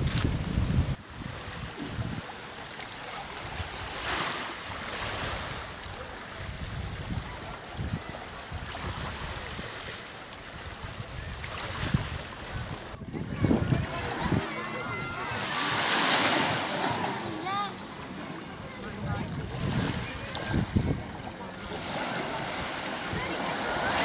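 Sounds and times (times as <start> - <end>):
wind buffeting microphone: 0.0 - 2.6, 4.7 - 24.0
sea waves washing: 0.0 - 24.0.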